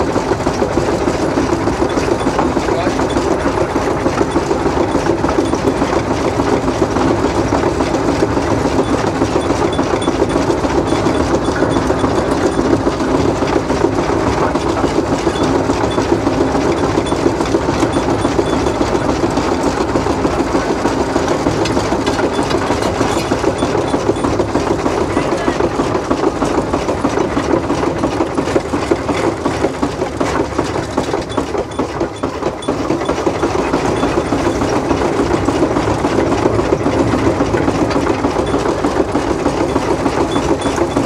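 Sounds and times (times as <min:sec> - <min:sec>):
steam traction engine clatter: 0:00.0 - 0:41.0.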